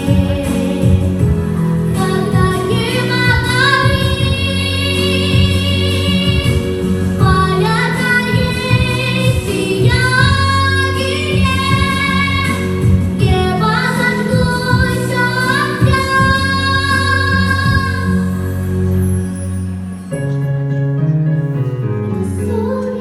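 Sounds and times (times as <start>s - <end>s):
low musical accompaniment: 0.0s - 23.0s.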